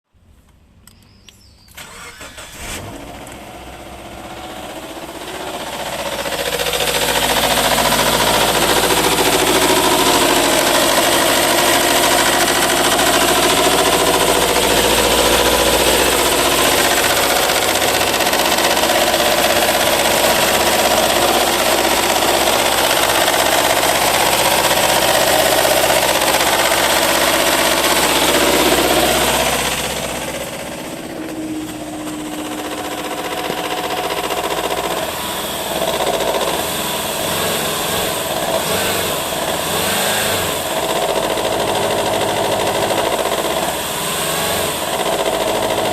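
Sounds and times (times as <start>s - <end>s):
car engine running: 1.8s - 45.9s
engine knocking: 3.8s - 45.9s.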